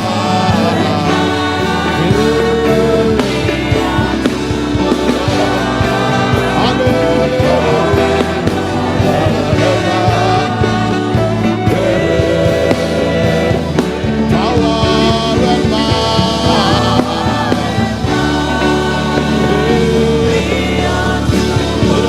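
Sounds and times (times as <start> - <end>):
person singing gospel: 0.0 - 22.0
sustained instrumental backing: 0.0 - 22.0.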